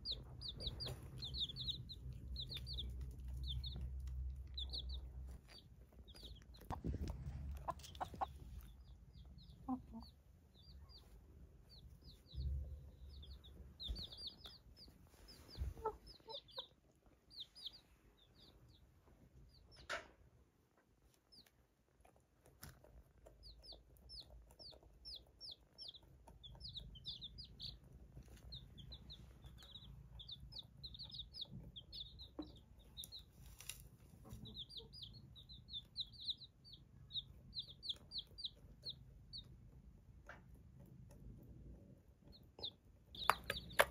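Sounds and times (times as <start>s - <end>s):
baby chicks peeping: 0.0s - 43.9s.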